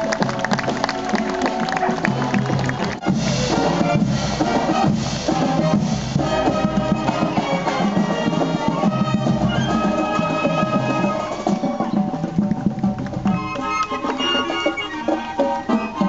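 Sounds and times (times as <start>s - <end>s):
flutes playing tune: 0.0s - 16.0s
marching band playing: 0.0s - 16.0s
steady drum beat: 0.0s - 16.0s.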